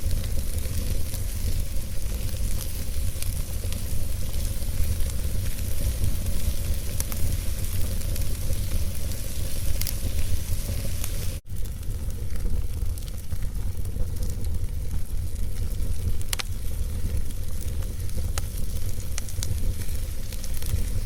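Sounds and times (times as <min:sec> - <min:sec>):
fire crackles and pops: 0:00.0 - 0:21.0
low fire rumble: 0:00.0 - 0:21.0.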